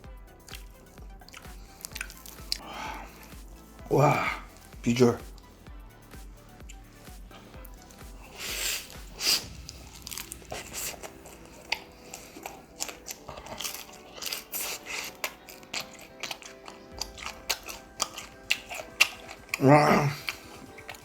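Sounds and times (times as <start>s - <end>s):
crunching and chewing food: 0.0s - 5.6s, 6.6s - 21.0s
background music: 0.0s - 21.0s.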